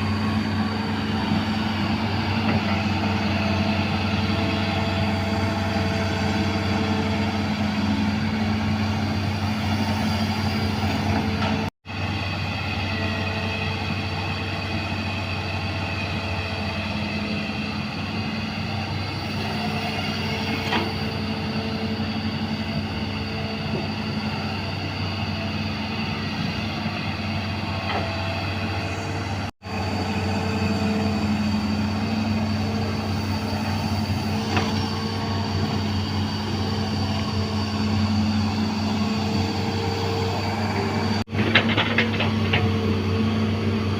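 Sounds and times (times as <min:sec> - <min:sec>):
diesel engine running steadily: 0:00.0 - 0:43.9.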